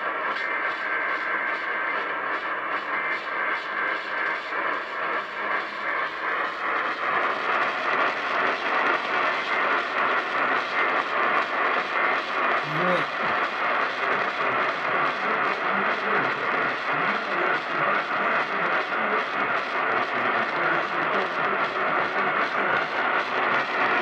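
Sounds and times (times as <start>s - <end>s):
pulsing radio interference: 0.0s - 24.0s
radio static and hiss: 0.0s - 24.0s.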